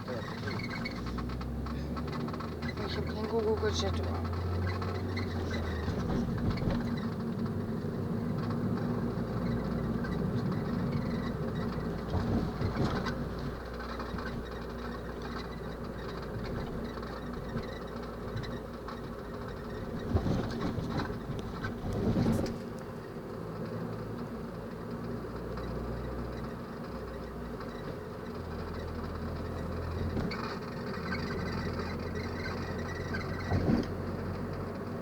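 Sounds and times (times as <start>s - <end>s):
car squeaks and creaks: 0.0s - 23.8s, 25.5s - 35.0s
car running drone: 0.0s - 35.0s.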